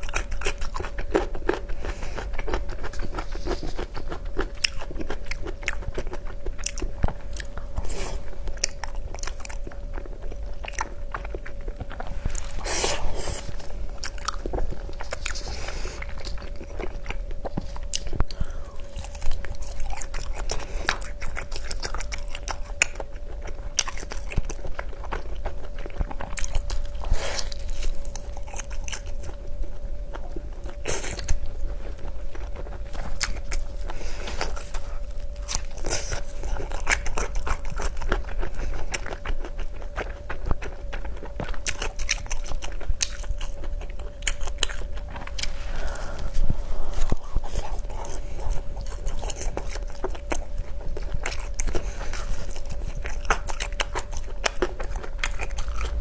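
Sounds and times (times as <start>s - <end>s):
chewing crunchy food: 0.0s - 56.0s
faint steady hum: 0.0s - 56.0s.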